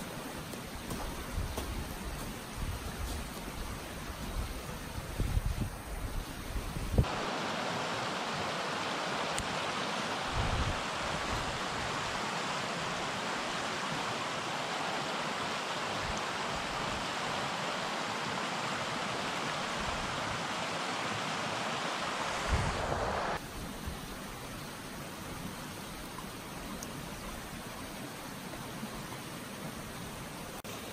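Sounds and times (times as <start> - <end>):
stream flowing over rocks: 0.0 - 30.9.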